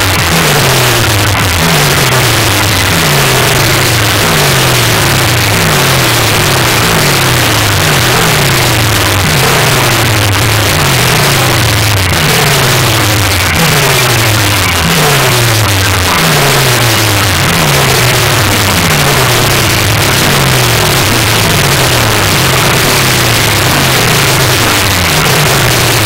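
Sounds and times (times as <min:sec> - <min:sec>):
distorted electronic bass: 0:00.0 - 0:26.0
falling bass sweep: 0:00.0 - 0:26.0.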